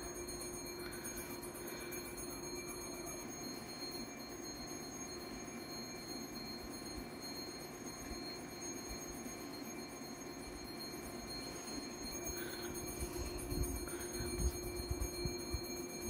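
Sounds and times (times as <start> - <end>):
ambient hum and hiss: 0.0 - 16.0
faint constant tones: 0.0 - 16.0.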